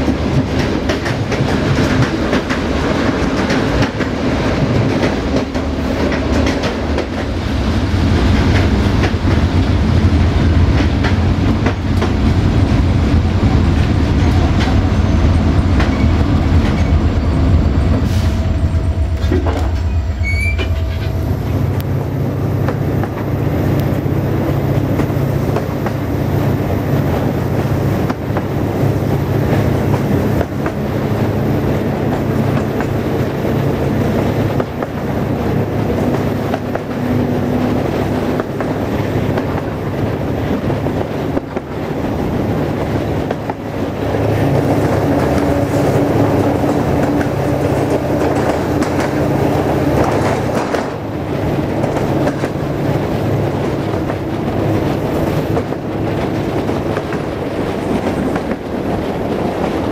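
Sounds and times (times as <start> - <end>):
rail joint clicks: 0.0 - 59.9
train wheels rumbling on rails: 0.0 - 59.9.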